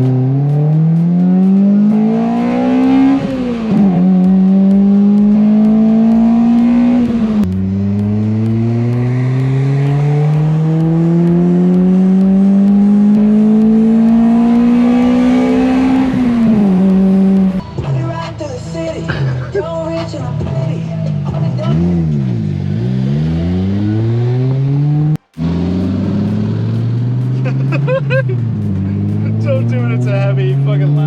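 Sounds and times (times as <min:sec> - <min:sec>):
car engine revving through gears: 0:00.0 - 0:17.6, 0:21.3 - 0:31.0.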